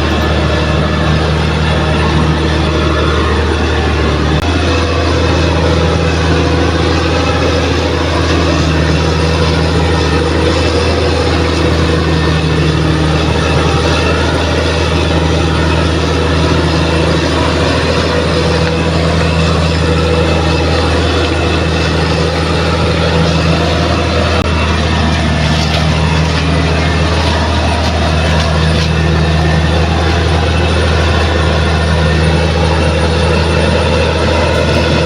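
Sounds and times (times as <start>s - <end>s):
bulldozer diesel engine droning: 0.0s - 35.0s.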